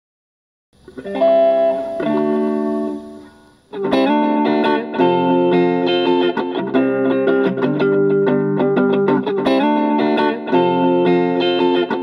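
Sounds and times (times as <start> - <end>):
held music chords: 0.8 - 12.0.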